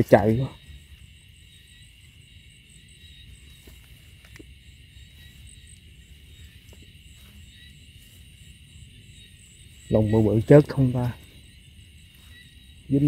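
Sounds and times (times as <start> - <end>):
crickets trilling: 0.0 - 13.0
faint low rustle: 0.6 - 13.0.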